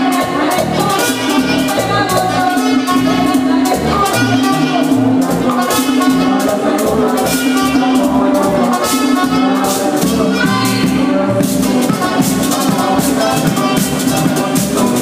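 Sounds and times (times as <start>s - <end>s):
drums: 0.0s - 15.0s
wind instrument notes: 0.0s - 15.0s.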